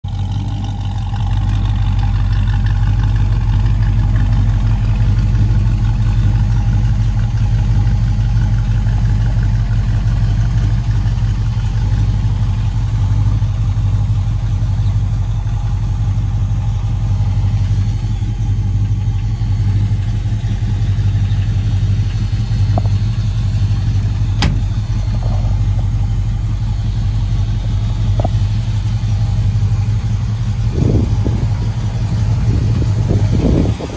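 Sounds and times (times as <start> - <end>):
pickup engine idling: 0.0 - 33.9.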